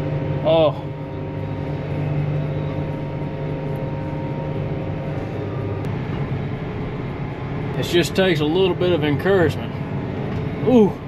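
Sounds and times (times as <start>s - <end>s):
faint steady whine: 0.0s - 11.0s
tractor diesel engine under load: 0.0s - 11.0s.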